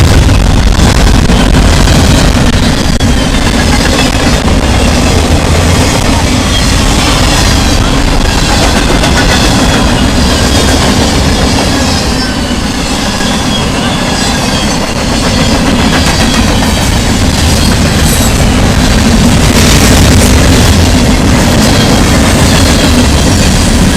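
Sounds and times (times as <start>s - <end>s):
freight train rumbling past: 0.0s - 23.9s.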